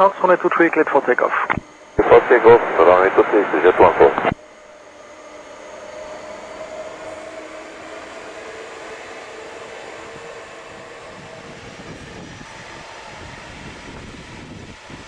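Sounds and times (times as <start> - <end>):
jet engines spooling up: 0.0 - 15.0.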